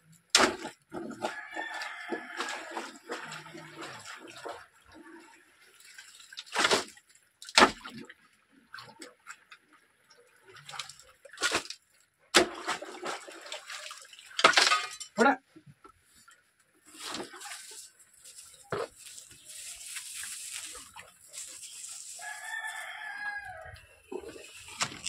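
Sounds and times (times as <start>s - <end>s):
water splashing: 0.4s - 15.0s, 16.8s - 25.0s.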